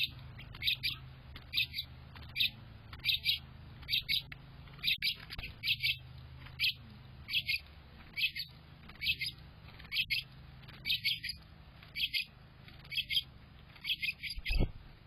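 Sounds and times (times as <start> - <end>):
young bird chirping: 0.0 - 14.8.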